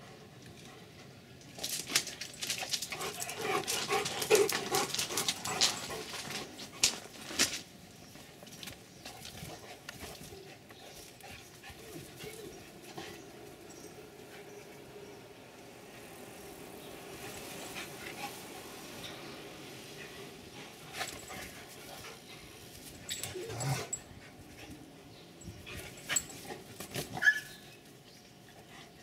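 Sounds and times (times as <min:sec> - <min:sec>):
dogs playing and scuffling: 0:00.2 - 0:29.0.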